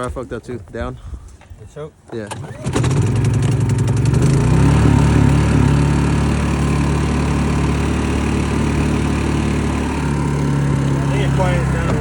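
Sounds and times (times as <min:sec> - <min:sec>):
generator engine running: 0:02.3 - 0:12.0.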